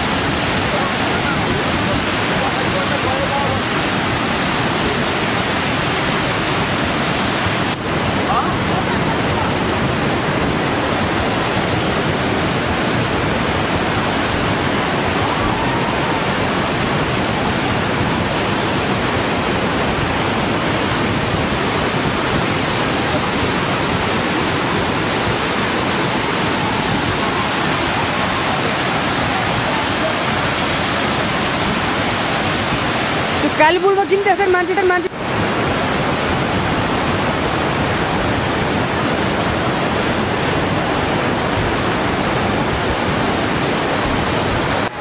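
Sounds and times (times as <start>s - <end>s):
flooded river rushing: 0.0s - 45.0s.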